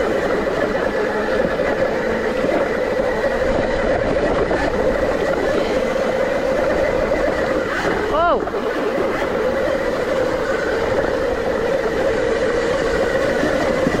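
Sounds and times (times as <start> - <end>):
electric motor whine: 0.0 - 14.0
wind noise: 0.0 - 14.0.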